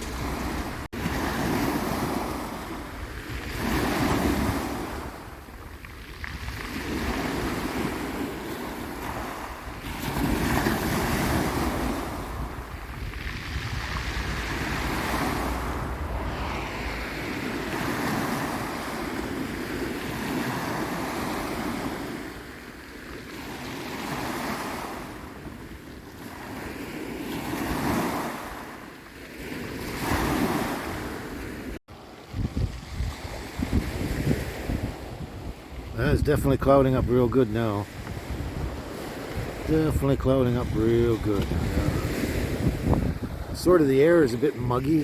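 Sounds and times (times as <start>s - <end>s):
wind buffeting microphone: 0.0s - 22.6s, 29.7s - 45.0s
waves washing onto shore: 0.0s - 45.0s.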